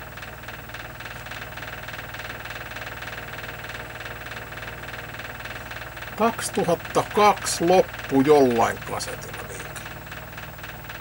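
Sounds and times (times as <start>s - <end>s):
machines humming with flutter: 0.0s - 11.0s.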